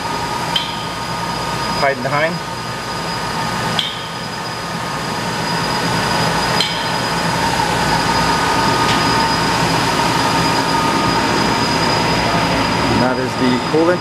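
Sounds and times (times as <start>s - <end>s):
machine hum and whine: 0.0s - 14.0s.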